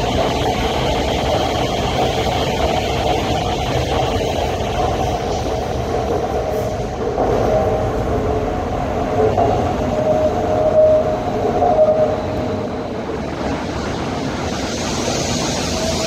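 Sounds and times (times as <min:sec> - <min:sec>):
train rumbling on track: 0:00.0 - 0:16.0
wavering train whine: 0:00.0 - 0:16.0.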